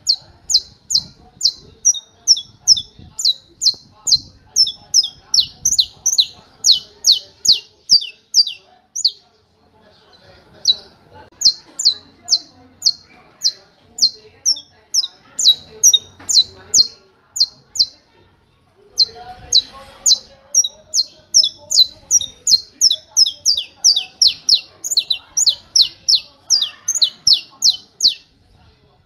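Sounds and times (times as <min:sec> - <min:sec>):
finch singing sharp notes: 0:00.0 - 0:09.2, 0:10.6 - 0:18.0, 0:19.0 - 0:28.3.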